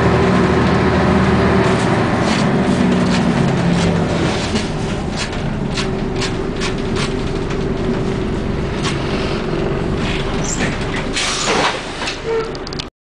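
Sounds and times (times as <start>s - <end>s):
bus diesel engine drone: 0.0s - 12.9s
road noise: 0.0s - 12.9s.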